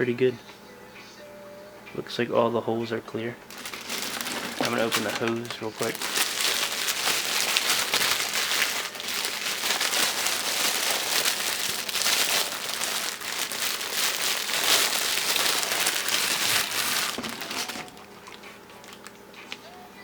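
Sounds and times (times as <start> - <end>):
packaging crinkling and rustling: 3.5 - 19.6.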